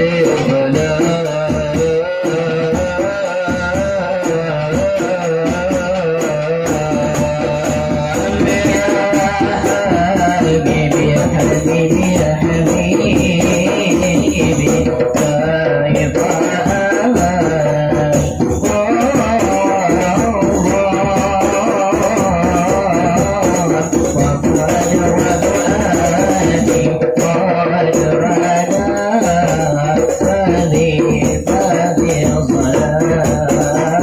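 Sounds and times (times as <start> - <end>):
hand percussion: 0.0 - 34.0.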